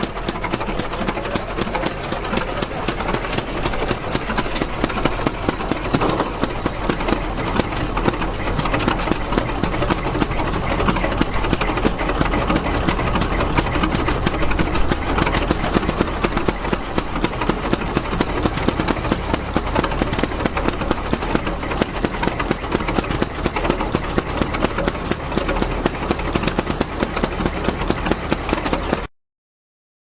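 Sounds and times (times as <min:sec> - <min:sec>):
old gas engine running: 0:00.0 - 0:29.1.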